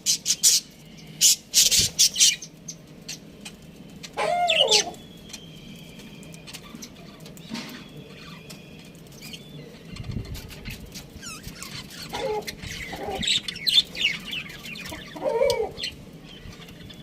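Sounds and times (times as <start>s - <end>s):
budgies warbling and chirping: 0.0s - 17.0s.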